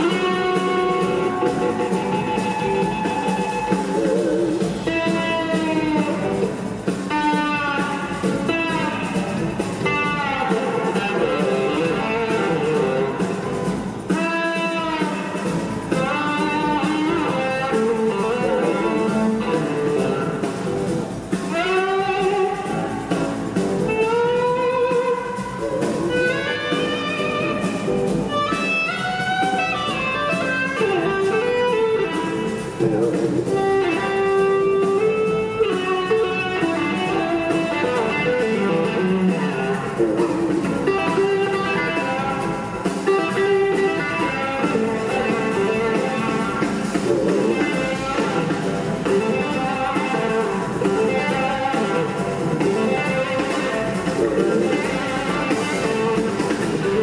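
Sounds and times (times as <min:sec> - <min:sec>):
blues-rock band playing: 0:00.0 - 0:57.0
electric guitar bending notes: 0:00.0 - 0:57.0.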